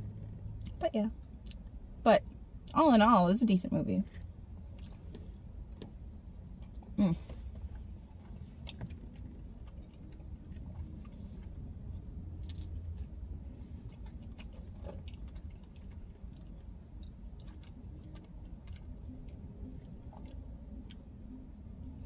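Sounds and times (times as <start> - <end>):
close chewing mouth sounds: 0.0 - 2.8, 4.0 - 22.0.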